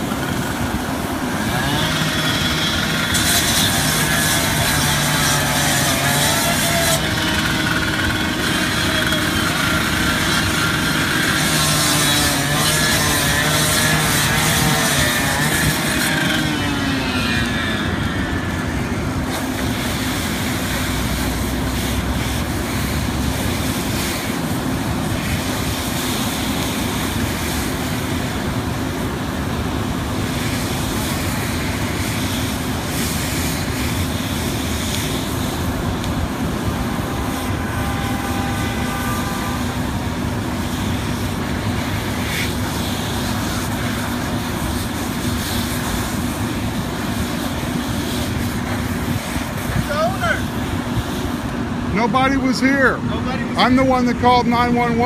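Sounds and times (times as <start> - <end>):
fire engine pump motor droning: 0.0 - 55.0
fire hose spraying water: 0.0 - 55.0.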